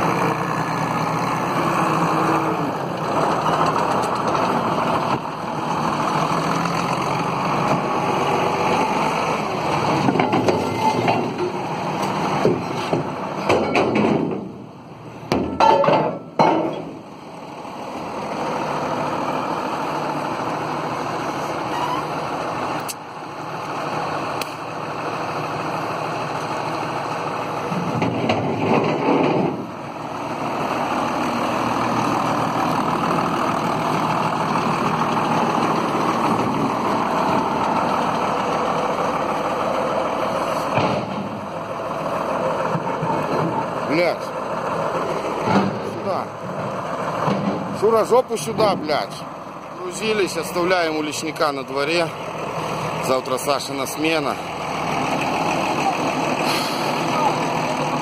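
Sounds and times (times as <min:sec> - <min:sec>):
heavy vehicle engine running: 0:00.0 - 0:58.0.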